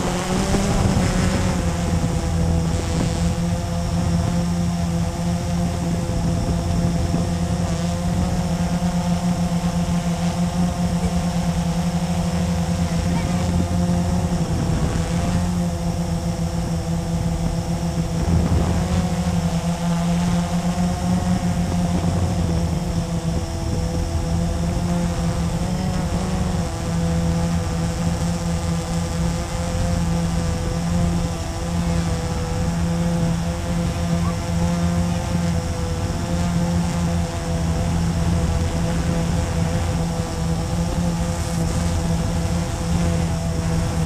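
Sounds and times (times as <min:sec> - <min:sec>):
quadcopter motors humming: 0:00.0 - 0:44.0.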